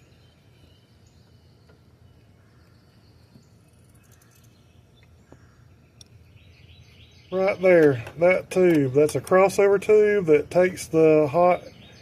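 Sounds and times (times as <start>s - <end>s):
quiet low hum: 0.0s - 12.0s.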